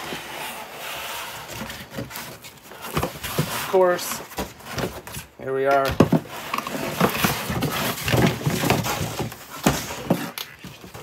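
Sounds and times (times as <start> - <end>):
foam blocks squeaking and rubbing: 0.0 - 5.3, 6.1 - 11.0
handling knocks and rustles: 1.4 - 11.0.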